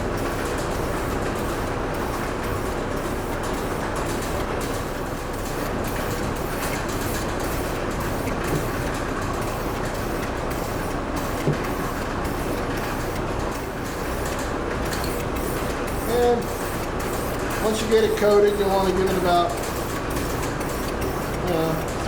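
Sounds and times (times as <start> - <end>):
noisy mechanical running sound: 0.0 - 22.0.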